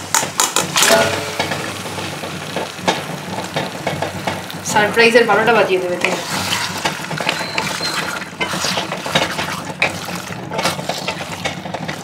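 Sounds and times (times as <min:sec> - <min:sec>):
frying sizzle: 0:00.0 - 0:12.0
spatula scraping frying pan: 0:00.9 - 0:12.0.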